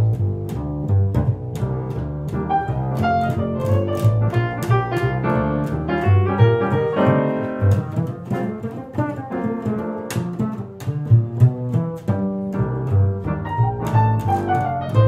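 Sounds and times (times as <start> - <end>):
double bass notes: 0.0 - 15.0
piano notes and chords: 0.0 - 15.0.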